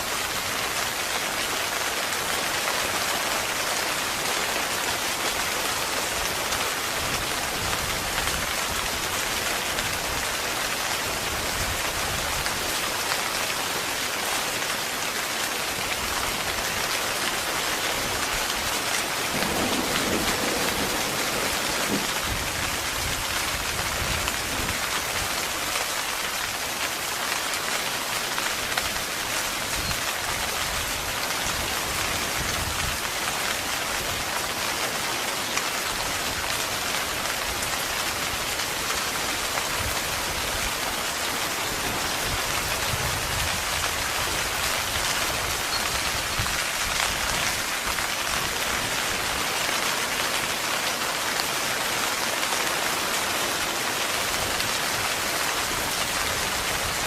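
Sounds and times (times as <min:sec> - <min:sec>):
heavy rain on tent fabric: 0:00.0 - 0:57.0.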